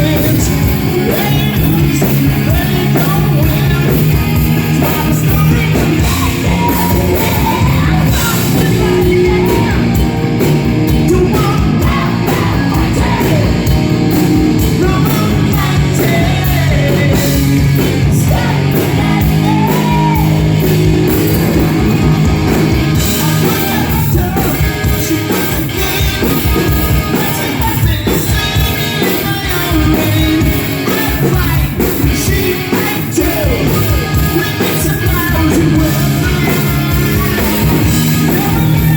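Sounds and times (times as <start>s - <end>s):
bass: 0.0s - 38.9s
distorted electric guitars: 0.0s - 38.9s
person singing: 0.0s - 38.9s.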